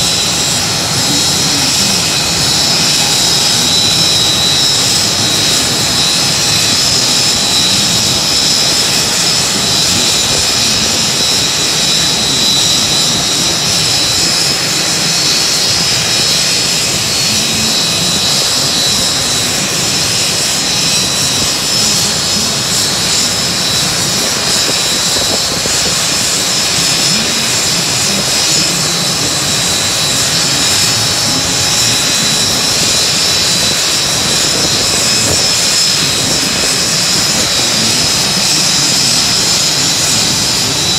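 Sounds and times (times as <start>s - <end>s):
turbine engine rush and whine: 0.0s - 40.9s.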